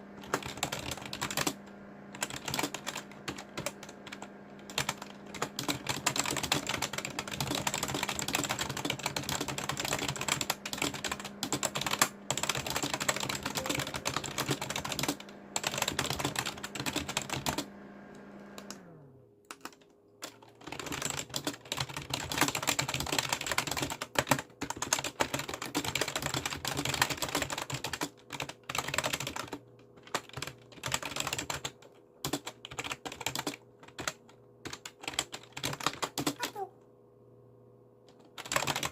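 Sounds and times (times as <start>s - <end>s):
fast keyboard typing: 0.0s - 17.7s, 18.5s - 36.7s, 38.1s - 38.9s.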